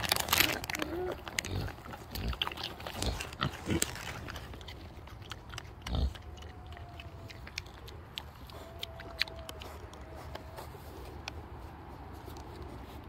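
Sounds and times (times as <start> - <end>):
piglets grunting: 0.0 - 10.7.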